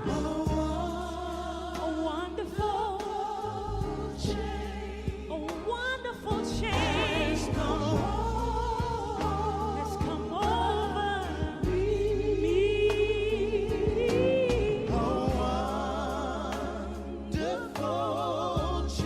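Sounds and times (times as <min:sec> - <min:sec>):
person singing with vibrato: 0:00.0 - 0:04.6, 0:05.3 - 0:19.0
band backing with bass and drums: 0:00.0 - 0:19.0.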